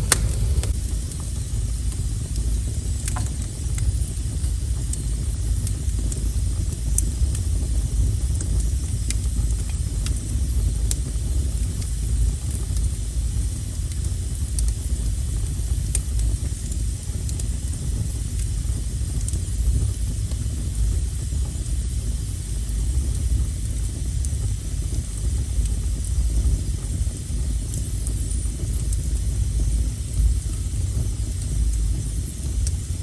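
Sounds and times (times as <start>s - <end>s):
fire crackling and popping: 0.0s - 33.0s
wood fire rumbling: 0.0s - 33.0s.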